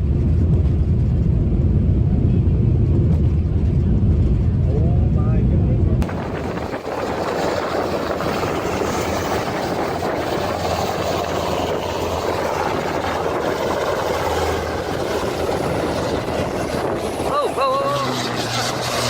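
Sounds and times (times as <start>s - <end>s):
aircraft engine noise: 0.0s - 19.0s
low hum: 0.0s - 19.0s.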